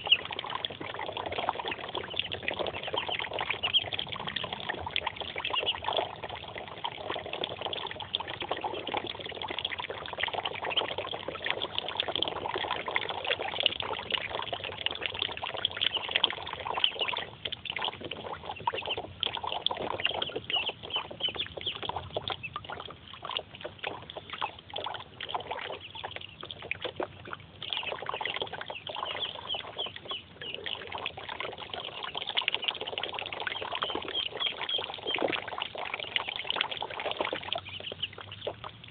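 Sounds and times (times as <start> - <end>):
ducklings peeping: 0.0 - 38.9
water splashing and trickling: 0.0 - 38.9.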